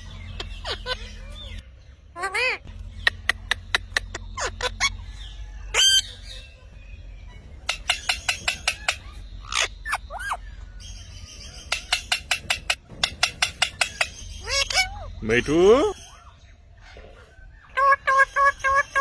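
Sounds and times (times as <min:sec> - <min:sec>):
parrot chirping and squawking: 0:00.0 - 0:06.7, 0:07.3 - 0:19.0.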